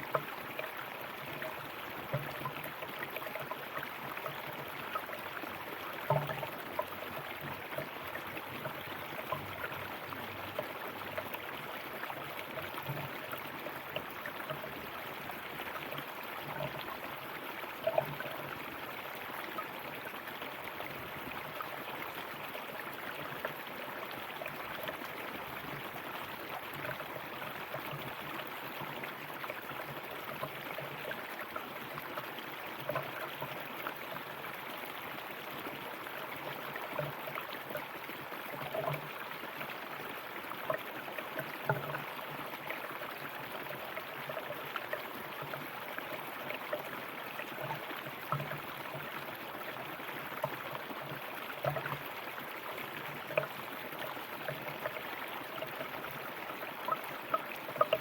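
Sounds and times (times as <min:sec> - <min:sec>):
river water flowing over rocks: 0:00.0 - 0:58.0
water gurgles and splashes: 0:00.0 - 0:58.0.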